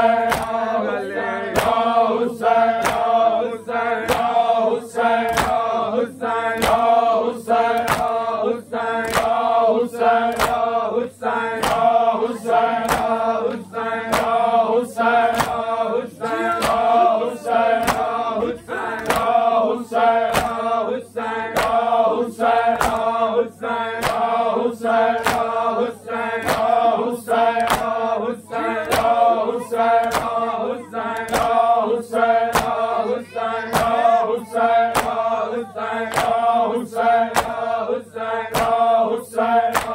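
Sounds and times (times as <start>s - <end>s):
rhythmic chest-beating slaps: 0.0s - 39.9s
voices chanting in chorus: 0.0s - 39.9s.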